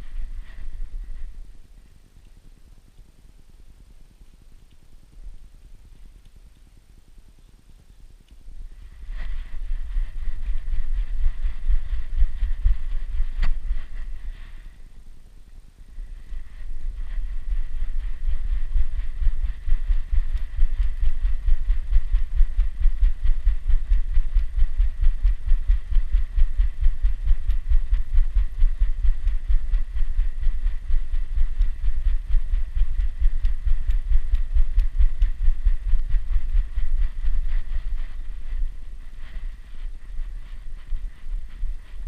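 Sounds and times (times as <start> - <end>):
rapid low thumps of dog breathing: 0.0 - 2.0, 8.6 - 15.1, 15.9 - 42.0.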